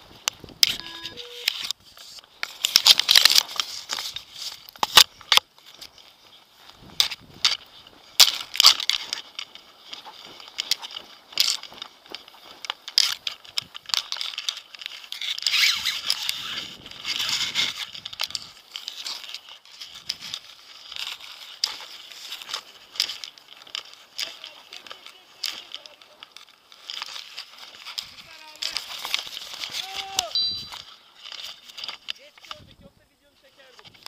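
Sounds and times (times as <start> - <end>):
nylon fabric rustling and crinkling: 0.0 - 32.6.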